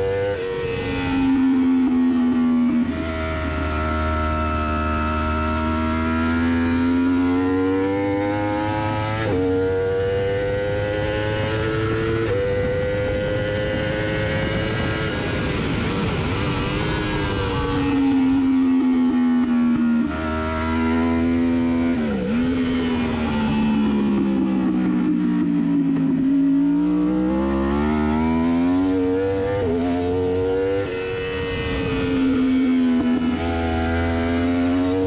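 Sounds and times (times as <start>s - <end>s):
motorcycle engine at racing speed: 0.0s - 35.0s.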